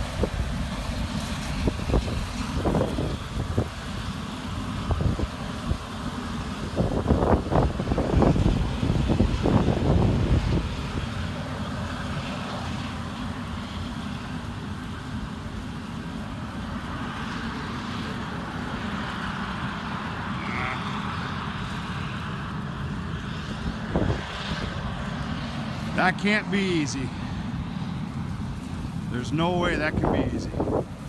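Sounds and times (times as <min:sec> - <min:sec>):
farm machinery engine rumbling: 0:00.0 - 0:31.0.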